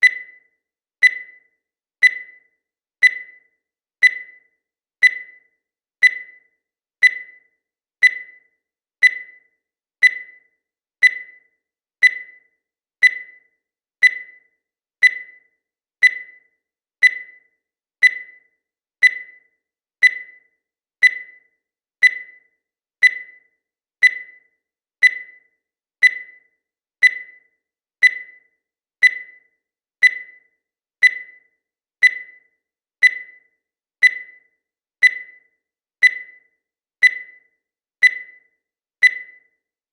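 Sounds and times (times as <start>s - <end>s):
countdown timer beeping: 0.0s - 39.7s.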